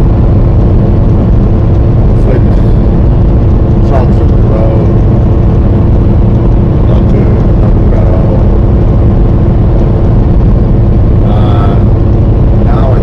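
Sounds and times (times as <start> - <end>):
constant hum: 0.0 - 13.0
road noise: 0.0 - 13.0
truck engine drone: 0.0 - 13.0.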